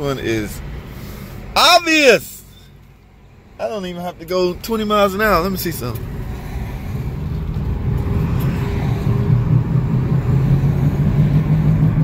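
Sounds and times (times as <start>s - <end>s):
low roaring drone in car cabin: 0.0s - 12.0s.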